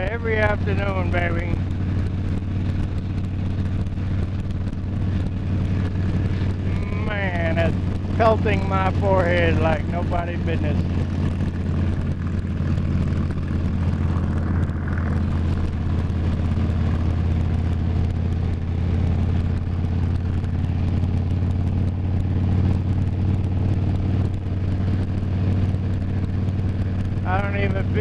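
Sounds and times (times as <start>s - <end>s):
motorcycle engine cruising: 0.0s - 28.0s
wind: 0.0s - 28.0s.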